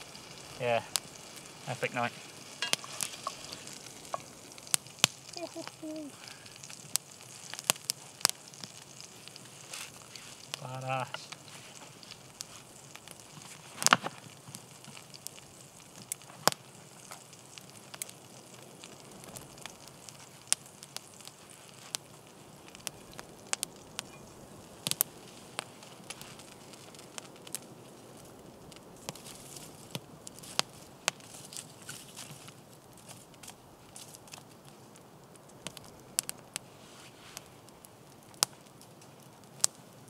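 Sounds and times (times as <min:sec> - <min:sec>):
campfire crackling: 0:00.0 - 0:40.0
faint steady hiss: 0:00.0 - 0:40.0.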